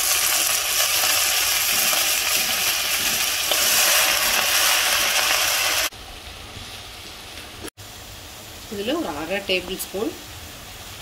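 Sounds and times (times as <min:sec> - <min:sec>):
greens sizzling in hot oil: 0:00.0 - 0:11.0.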